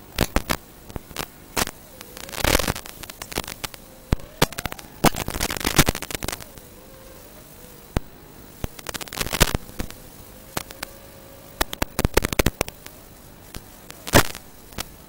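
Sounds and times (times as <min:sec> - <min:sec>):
faint steady hum: 0:00.0 - 0:15.0
sharp crackling clicks: 0:00.0 - 0:15.0
static hiss: 0:00.0 - 0:15.0.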